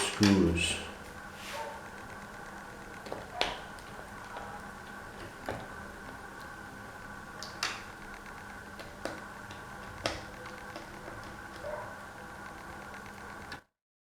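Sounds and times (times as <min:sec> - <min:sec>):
electrical hum: 0:00.0 - 0:13.6.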